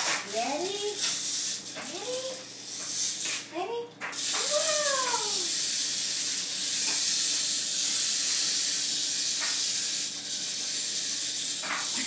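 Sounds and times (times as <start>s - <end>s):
clockwork toy motor whirring: 0.0s - 12.0s.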